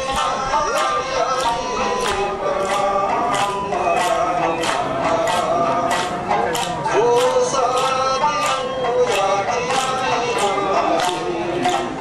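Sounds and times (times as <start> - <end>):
folk song singing voices: 0.0 - 12.0
steady percussive beat: 0.0 - 12.0.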